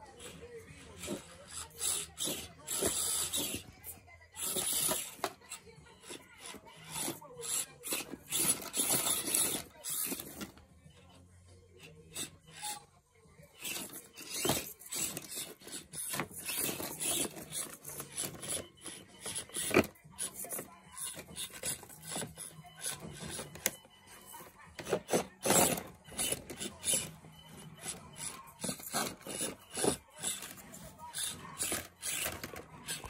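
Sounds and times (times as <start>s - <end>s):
toy truck tires scraping: 0.0s - 11.2s, 11.8s - 33.0s.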